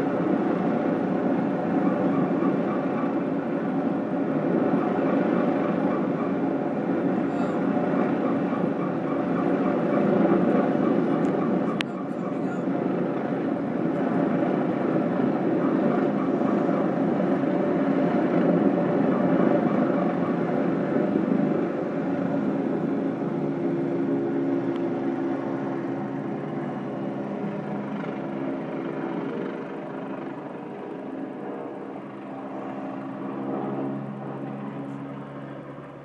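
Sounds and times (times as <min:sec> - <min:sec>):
helicopter flying overhead: 0:00.0 - 0:36.0.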